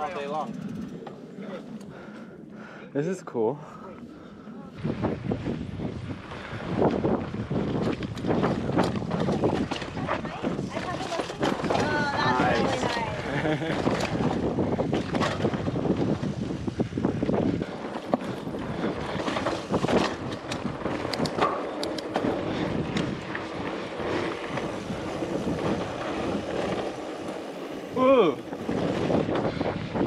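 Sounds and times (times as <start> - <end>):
bike clicks and rattles: 0.0 - 2.2, 5.0 - 30.0
bike tyres on dirt: 3.6 - 30.0
wind buffeting microphone: 4.0 - 30.0.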